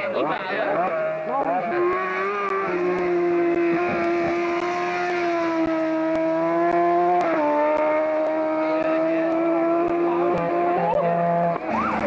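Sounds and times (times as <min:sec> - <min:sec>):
rally car engine at high revs: 0:00.3 - 0:12.0.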